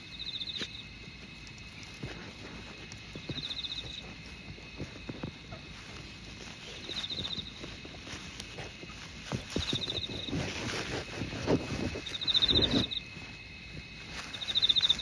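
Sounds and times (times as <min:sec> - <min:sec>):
insect chirping trills: 0:00.0 - 0:15.0.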